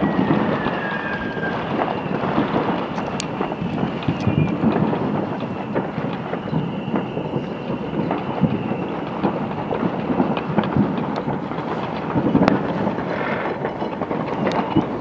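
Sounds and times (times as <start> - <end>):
distant fireworks rumble and crackle: 0.0 - 15.0
faint firework whistle: 0.0 - 15.0
firework bangs: 0.0 - 15.0.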